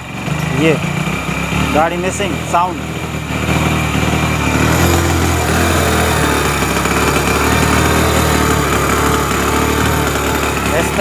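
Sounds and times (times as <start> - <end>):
motorcycle engine misfiring: 0.0 - 11.0.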